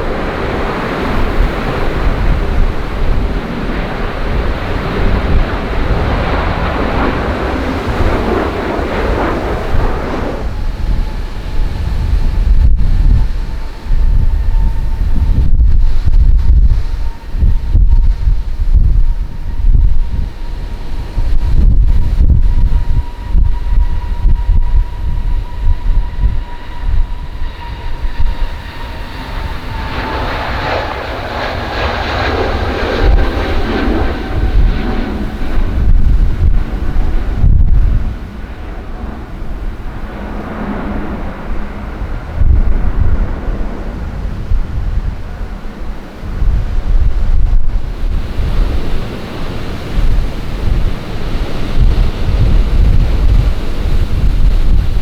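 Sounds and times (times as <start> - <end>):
broad rushing noise: 0.0 - 55.0
jet engines whining: 0.0 - 55.0
jet roar: 0.0 - 55.0
wind buffeting microphone: 0.0 - 55.0.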